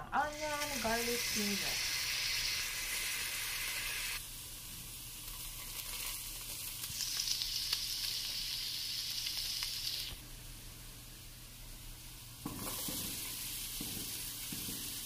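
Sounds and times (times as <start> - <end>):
oil sizzling in a wok: 0.2 - 15.0.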